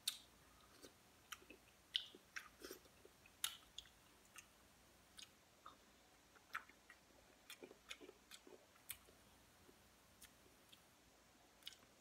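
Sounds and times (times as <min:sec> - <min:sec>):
faint chewing of egg: 0:00.0 - 0:10.9, 0:11.5 - 0:12.0.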